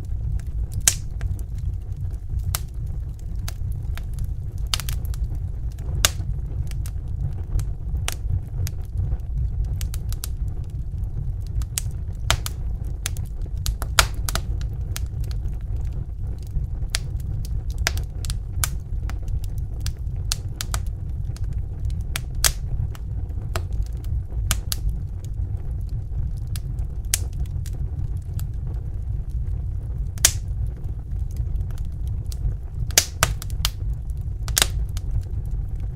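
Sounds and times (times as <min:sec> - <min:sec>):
log fire crackling: 0:00.0 - 0:35.9.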